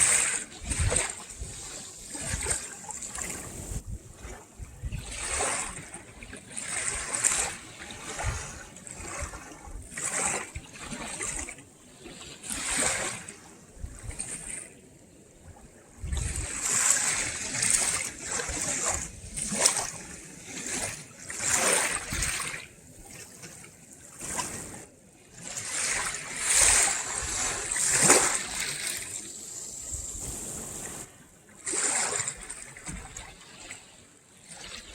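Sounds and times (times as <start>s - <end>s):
seawater lapping at shoreline: 0.0s - 34.9s.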